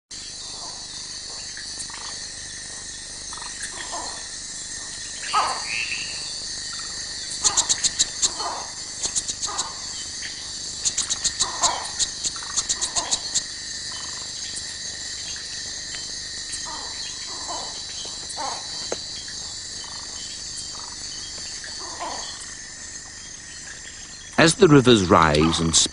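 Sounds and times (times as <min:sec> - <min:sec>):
high insect drone: 0:00.1 - 0:25.9.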